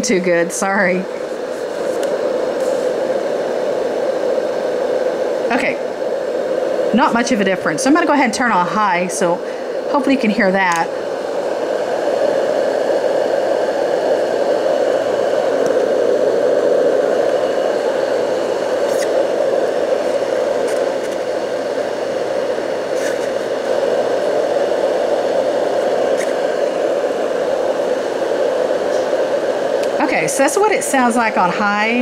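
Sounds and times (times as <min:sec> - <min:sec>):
white noise machine fan rushing: 0:00.0 - 0:32.0.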